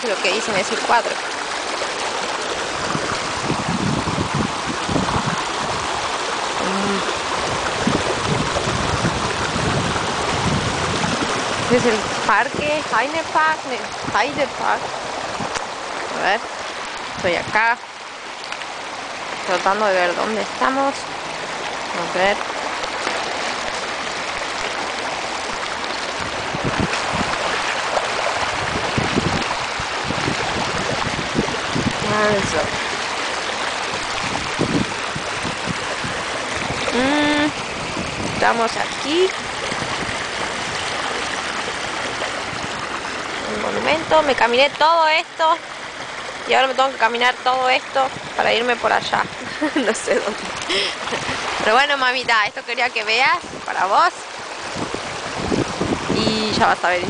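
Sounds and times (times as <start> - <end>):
water rushing in a channel: 0.0 - 57.0.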